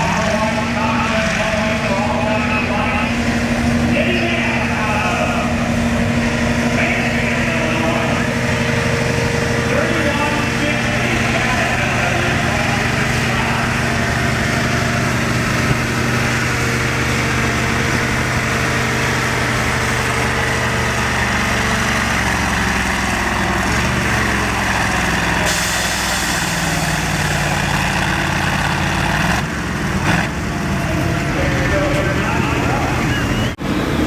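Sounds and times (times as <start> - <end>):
tractor engine running loud: 0.0 - 34.0.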